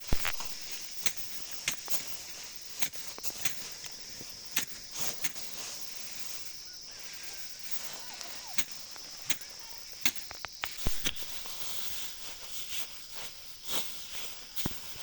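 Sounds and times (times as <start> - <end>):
high insect-like hum: 0.0 - 15.0
sickles cutting stalks: 0.0 - 15.0.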